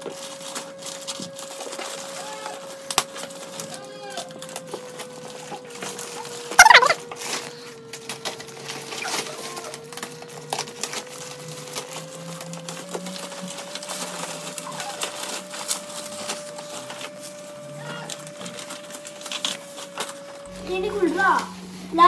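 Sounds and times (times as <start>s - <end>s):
packaging crinkling and rustling: 0.0s - 20.6s.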